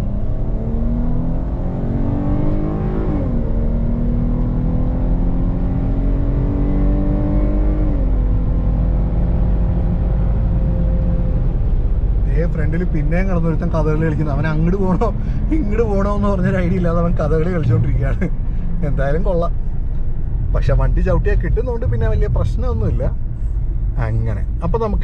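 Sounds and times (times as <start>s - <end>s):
car engine accelerating and upshifting: 0.0s - 25.0s.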